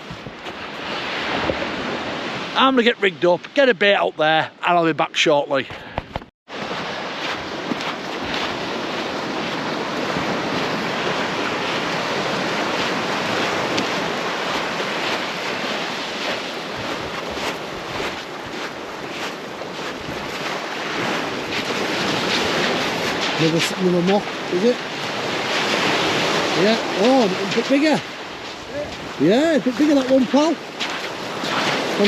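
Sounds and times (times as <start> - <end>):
waves washing onto beach: 0.0 - 5.0, 5.8 - 32.0
wind buffeting microphone: 5.8 - 32.0.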